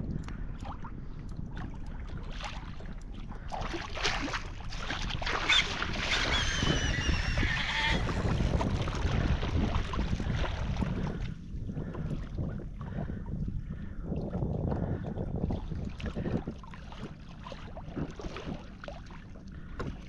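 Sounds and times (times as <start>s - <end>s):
wind buffeting microphone: 0.0s - 18.8s
water sloshing around kayak: 0.0s - 20.0s.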